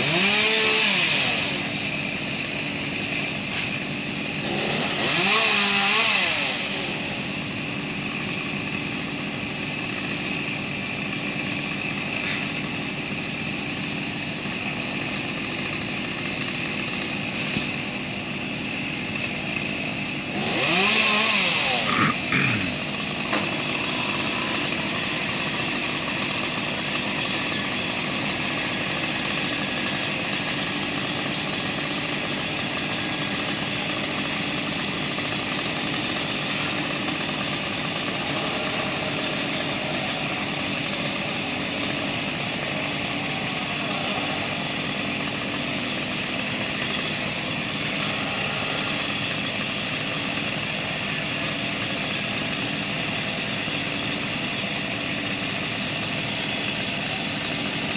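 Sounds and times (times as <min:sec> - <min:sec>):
small engine idling: 0:06.4 - 0:57.9.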